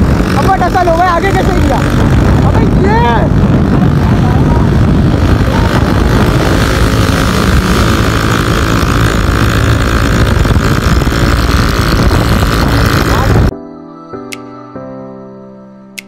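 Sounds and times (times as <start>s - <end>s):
motorcycle engine running: 0.0s - 13.5s
wind rush over microphone: 0.0s - 13.5s.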